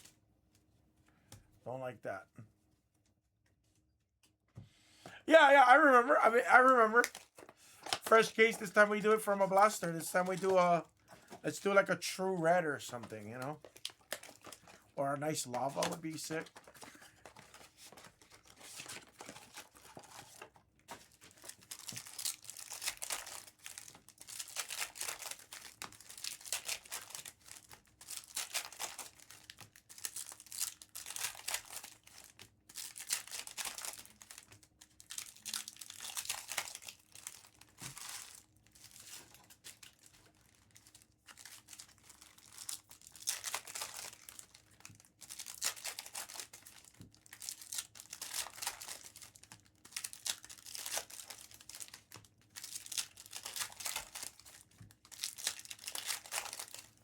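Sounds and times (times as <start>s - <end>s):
foil wrappers tearing and crinkling: 5.4s - 57.0s.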